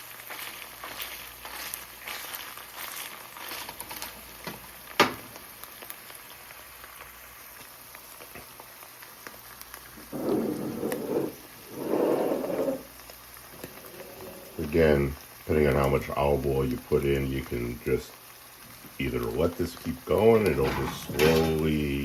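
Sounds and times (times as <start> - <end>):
eggs crackling in a frying pan: 0.0 - 22.0.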